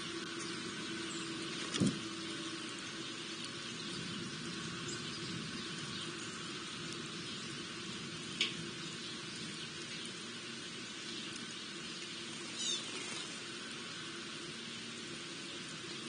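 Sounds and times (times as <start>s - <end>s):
low even hum: 0.0s - 16.0s.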